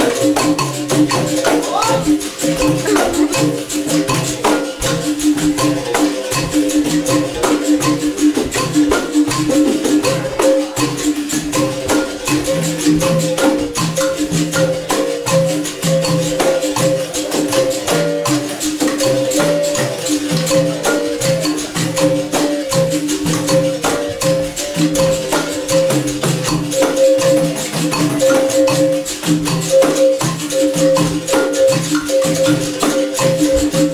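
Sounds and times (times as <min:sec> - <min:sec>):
berimbaus struck in rhythm: 0:00.0 - 0:33.9
shakers rattling: 0:00.0 - 0:33.9.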